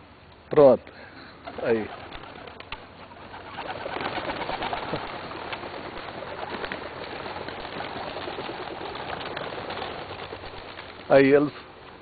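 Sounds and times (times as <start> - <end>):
sharp wing flaps: 1.4 - 11.4
pigeon wingbeats: 1.4 - 12.0.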